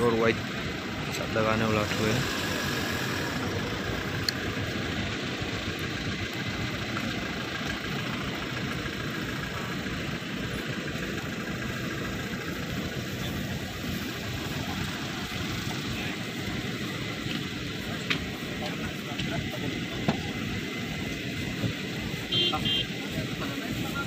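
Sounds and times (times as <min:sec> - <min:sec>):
helicopter turbine idling: 0:00.0 - 0:24.0.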